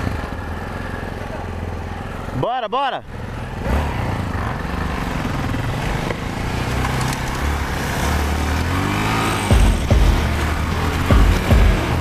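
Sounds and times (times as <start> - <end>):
motorcycle engine under throttle: 0.0 - 2.4, 3.1 - 12.0.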